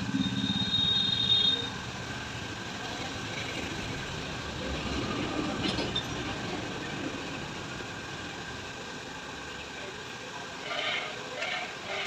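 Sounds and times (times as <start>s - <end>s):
workshop machine running: 0.0s - 12.0s.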